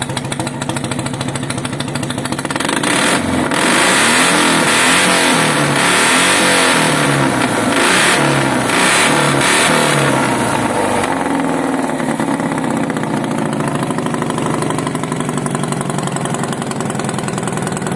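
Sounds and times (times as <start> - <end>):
motorcycle engine revving and idling: 0.0 - 17.9.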